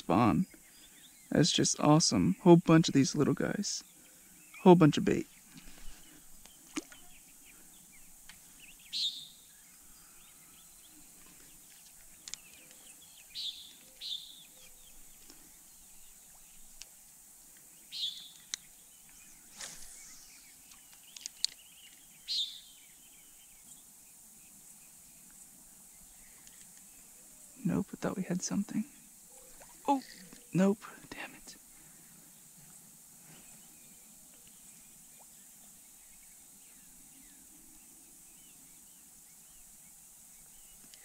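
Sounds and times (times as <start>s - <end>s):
birds chirping: 0.0s - 41.0s
faint background noise: 0.0s - 41.0s.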